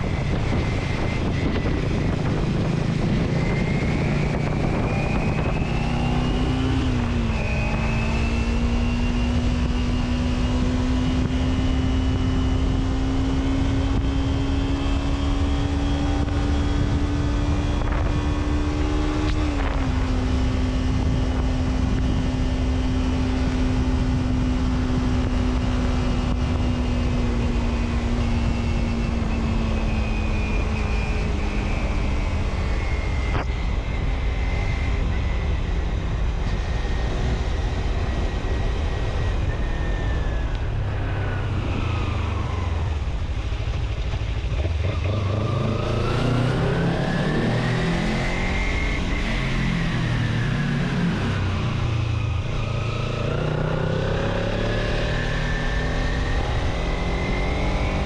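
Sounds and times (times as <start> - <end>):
low road rumble: 0.0 - 58.0.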